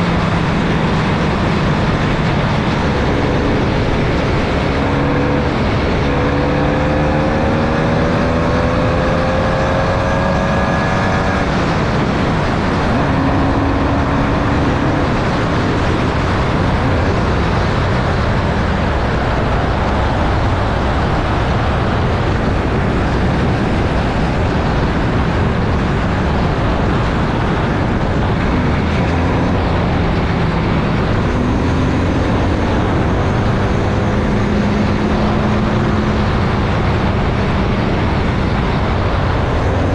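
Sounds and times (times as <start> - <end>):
race car engine: 0.0 - 39.9
wind and road rush: 0.0 - 39.9.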